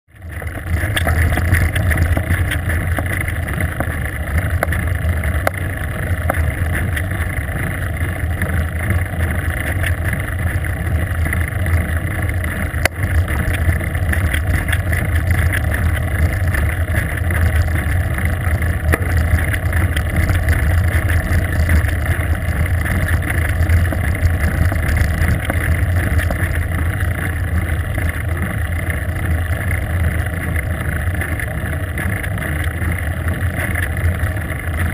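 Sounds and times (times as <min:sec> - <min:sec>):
faint ticks from road bumps: 0:00.2 - 0:34.9.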